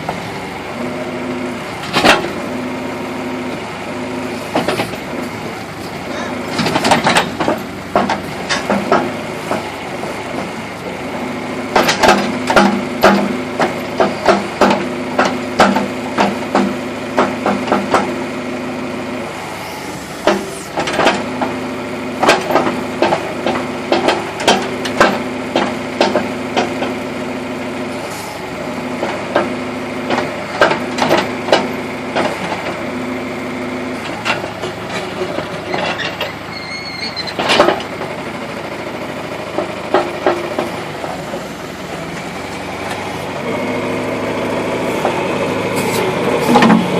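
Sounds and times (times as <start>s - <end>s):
backhoe engine running: 0.0s - 46.9s.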